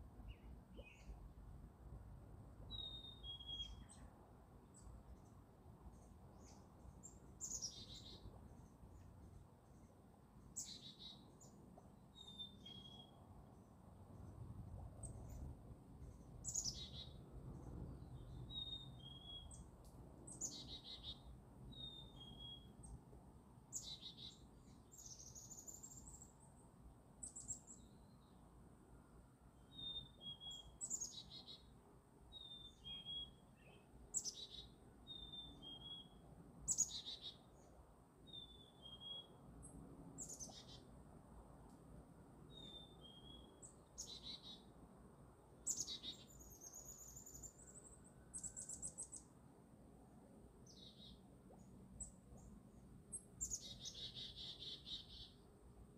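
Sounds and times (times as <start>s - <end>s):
faint low outdoor rumble: 0.0s - 55.9s.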